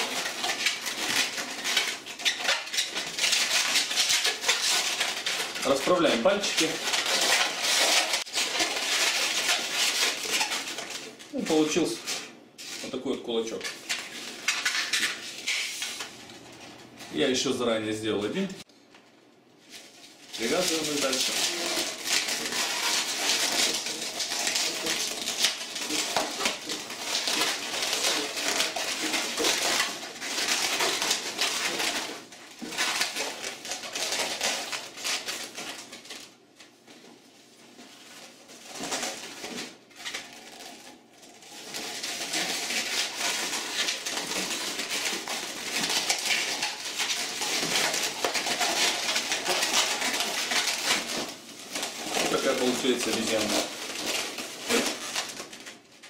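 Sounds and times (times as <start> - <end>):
balloons squeaking and rubbing: 0.0 - 16.1, 19.7 - 36.3, 37.5 - 56.0.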